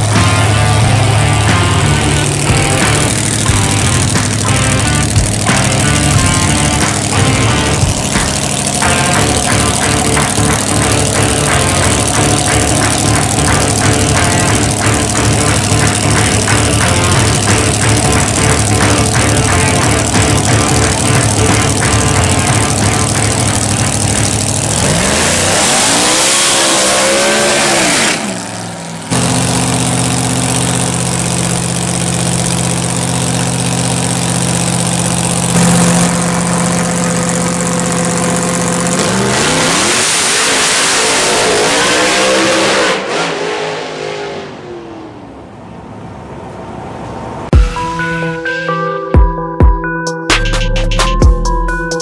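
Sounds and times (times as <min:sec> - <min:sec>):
drag racing engine revving: 0:00.0 - 0:48.3.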